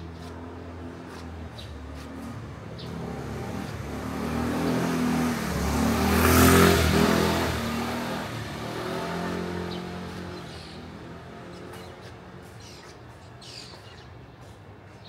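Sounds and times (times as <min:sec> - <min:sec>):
vehicle engine passing: 0:00.2 - 0:12.6.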